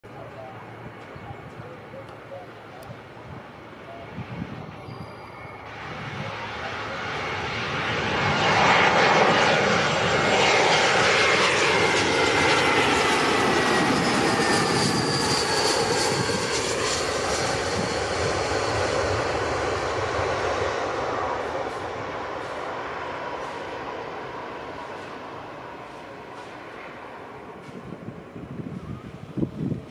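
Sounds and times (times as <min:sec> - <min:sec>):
jet engines flying past: 0:00.0 - 0:29.9.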